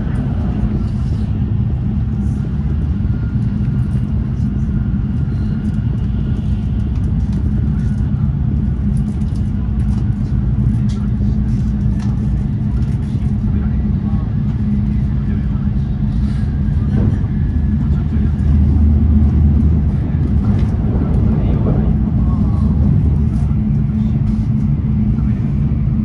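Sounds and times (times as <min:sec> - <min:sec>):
train rumble inside passenger car: 0:00.0 - 0:26.0.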